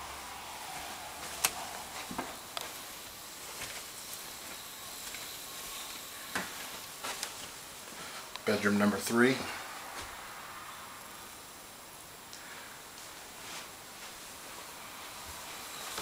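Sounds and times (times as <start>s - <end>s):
camera microphone hiss: 0.0s - 16.0s.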